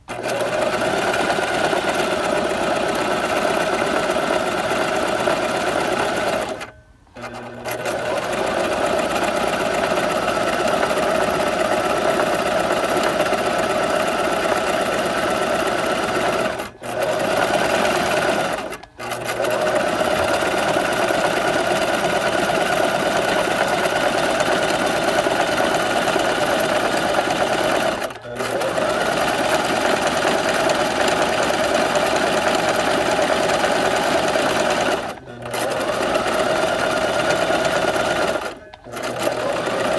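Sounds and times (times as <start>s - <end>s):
sewing machine running: 0.0s - 39.9s.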